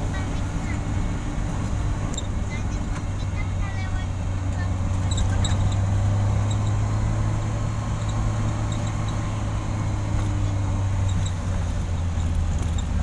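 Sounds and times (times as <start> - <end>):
road noise: 0.0 - 13.0
vehicle engine droning: 0.0 - 13.0.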